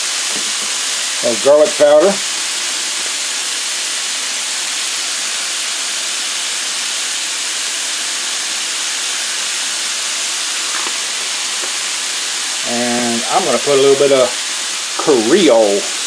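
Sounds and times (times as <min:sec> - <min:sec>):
meat and onions sizzling: 0:00.0 - 0:16.0.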